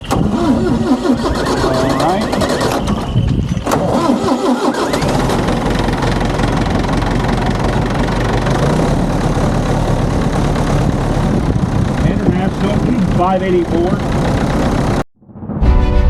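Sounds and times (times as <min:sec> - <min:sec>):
tractor diesel engine idling: 0:00.0 - 0:03.0, 0:03.8 - 0:15.0.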